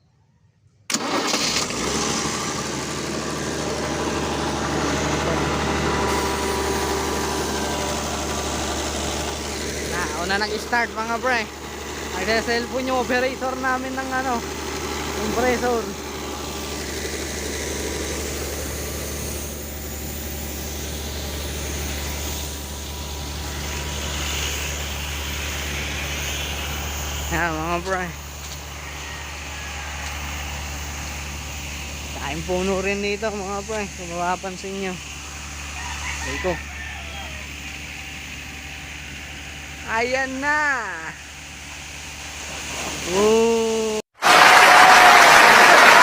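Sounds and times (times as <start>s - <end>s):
air compressor engine running: 0.9s - 45.4s.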